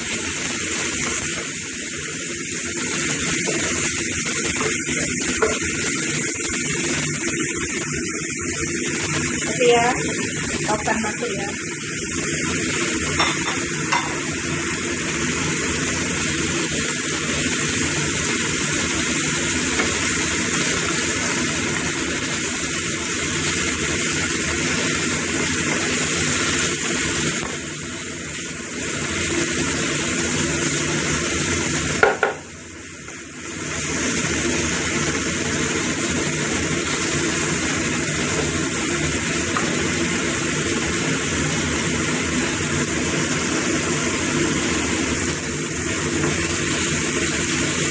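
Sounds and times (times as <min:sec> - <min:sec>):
food sizzling in a frying pan: 0:00.0 - 0:47.9.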